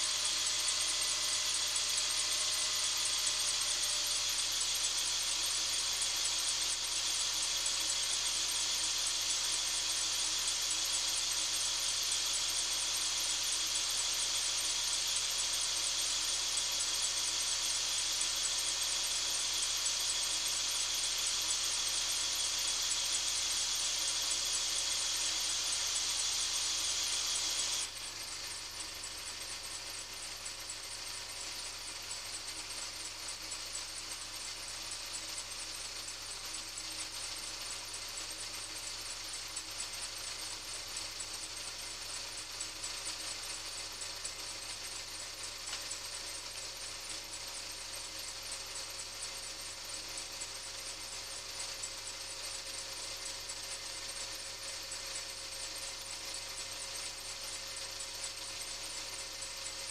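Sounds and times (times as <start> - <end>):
rapid high-pitched engine ticking: 0.0 - 59.9.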